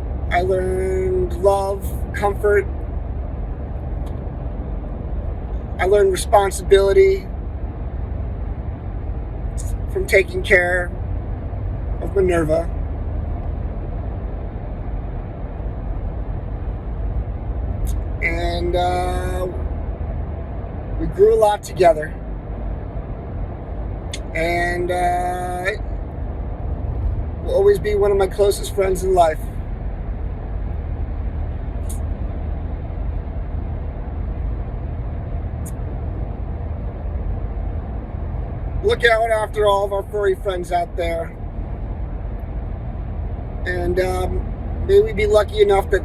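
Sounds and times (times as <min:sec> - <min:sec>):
low background rumble: 0:00.0 - 0:46.0.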